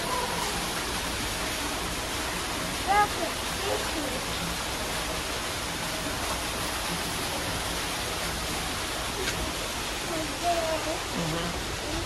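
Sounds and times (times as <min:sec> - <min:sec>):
small waterfall splashing into pool: 0:00.0 - 0:12.0.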